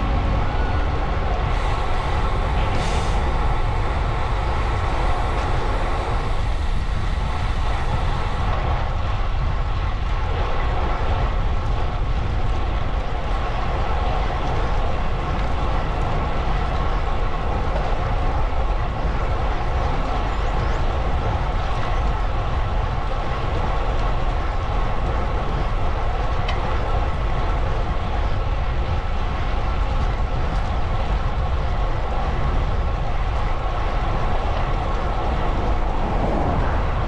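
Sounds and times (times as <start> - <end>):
bicycle road noise: 0.0 - 37.0
wind rumble on microphone: 0.0 - 37.0.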